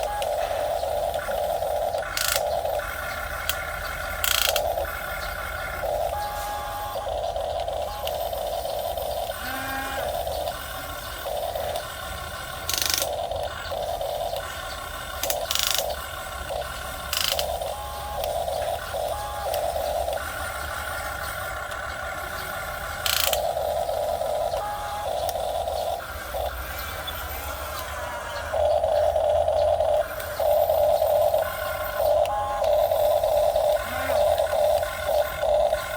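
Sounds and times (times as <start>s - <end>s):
sharp clicks: 0.0s - 6.3s, 10.3s - 35.9s
small electric gear motors whining: 0.0s - 35.9s.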